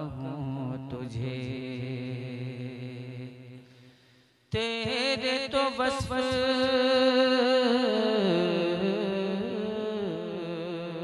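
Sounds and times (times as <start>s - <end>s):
man singing unaccompanied: 0.0s - 3.6s, 4.5s - 11.0s.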